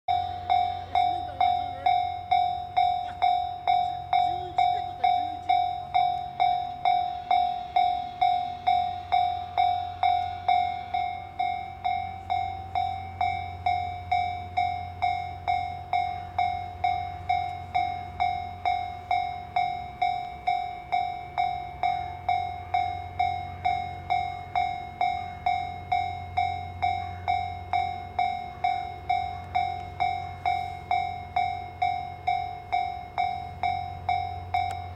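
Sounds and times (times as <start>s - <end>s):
level crossing alarm bell: 0.1s - 34.9s.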